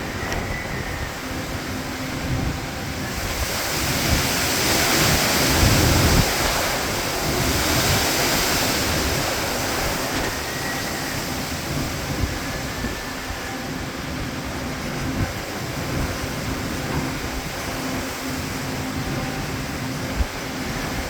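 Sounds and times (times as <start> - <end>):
wind gusting on microphone: 0.0 - 21.0.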